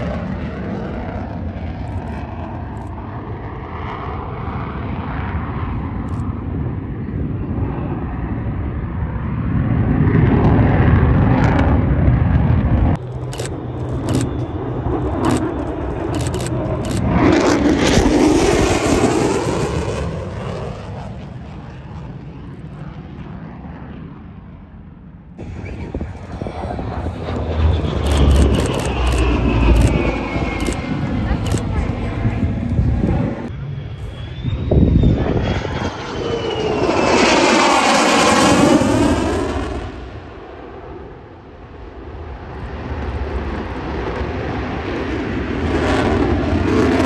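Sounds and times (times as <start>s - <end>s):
jet flying past: 0.0s - 47.0s.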